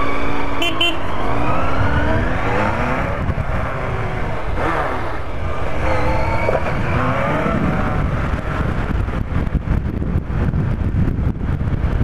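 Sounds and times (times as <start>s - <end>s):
motorcycle engine accelerating: 0.0s - 12.0s
wind buffeting microphone: 0.0s - 12.0s.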